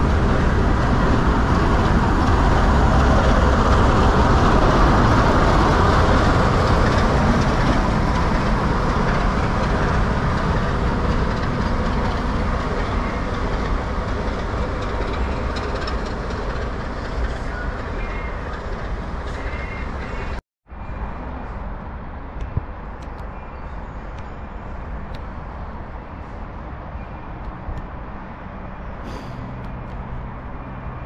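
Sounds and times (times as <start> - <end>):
diesel locomotive engine: 0.0 - 31.0
wheels on rails: 0.0 - 31.0.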